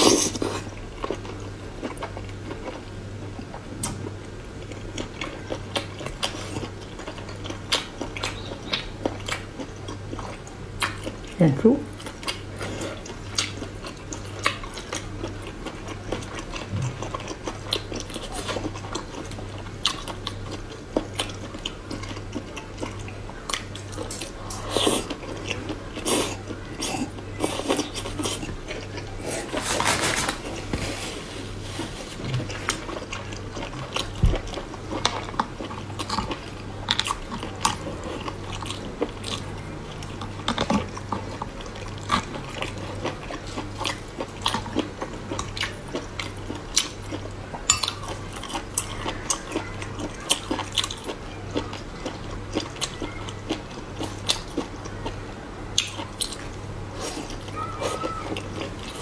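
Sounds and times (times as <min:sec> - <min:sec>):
person chewing: 0:00.0 - 0:59.0
steady low hum: 0:00.0 - 0:59.0.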